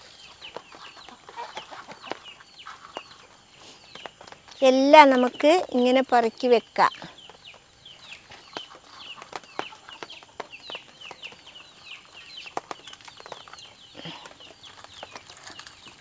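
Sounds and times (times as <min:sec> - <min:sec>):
chicks peeping: 0:00.0 - 0:04.6, 0:06.9 - 0:16.0.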